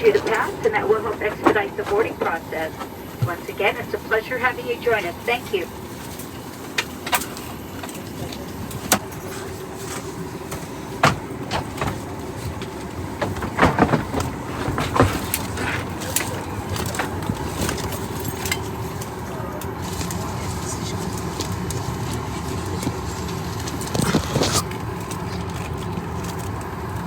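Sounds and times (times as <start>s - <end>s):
air conditioning hum: 0.0s - 27.0s.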